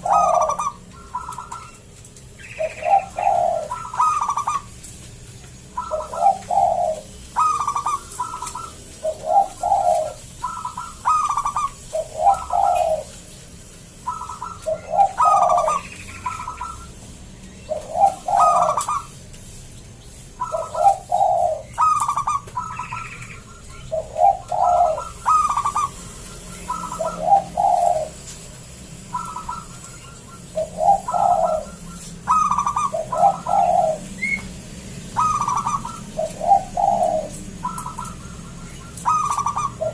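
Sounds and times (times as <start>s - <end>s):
dove cooing song: 0.0s - 19.3s, 20.3s - 39.9s.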